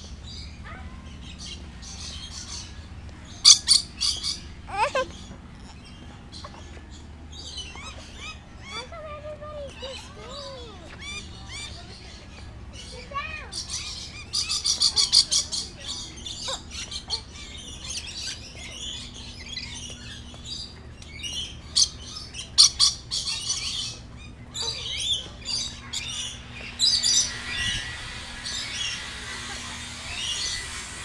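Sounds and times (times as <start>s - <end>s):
lorikeets screeching and chattering: 0.0s - 31.0s.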